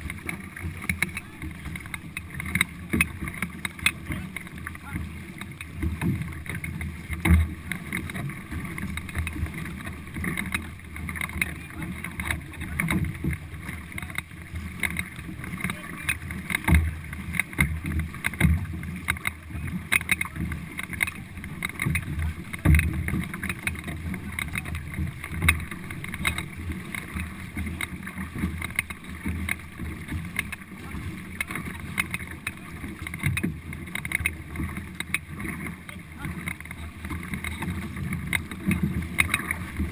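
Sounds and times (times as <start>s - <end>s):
paddle strokes sloshing: 0.0s - 39.9s
water rushing along canoe hull: 0.0s - 39.9s.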